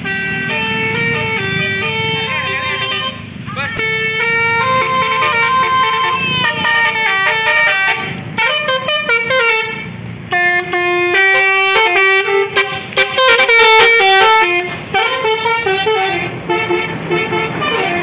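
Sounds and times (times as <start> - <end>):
musical horn playing melody: 0.0 - 3.2, 3.8 - 18.0.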